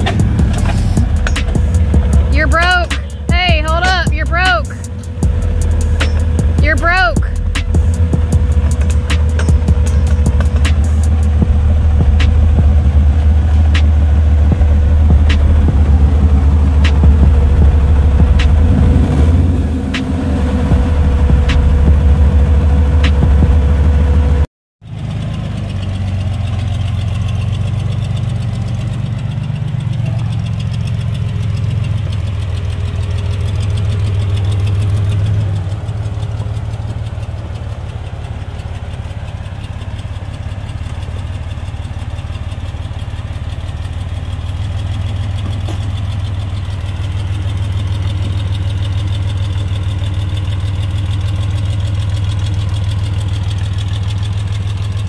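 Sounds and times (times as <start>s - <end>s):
engine running at low revs: 0.0s - 55.0s.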